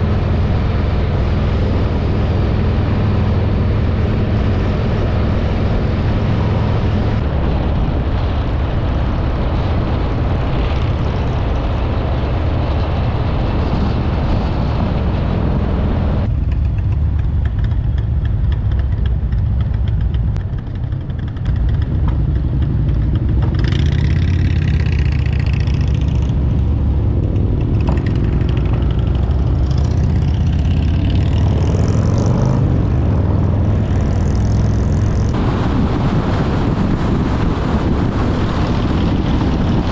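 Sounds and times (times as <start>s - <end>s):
motorcycle engine running: 0.0s - 35.4s
wind rush over microphone: 0.0s - 39.9s.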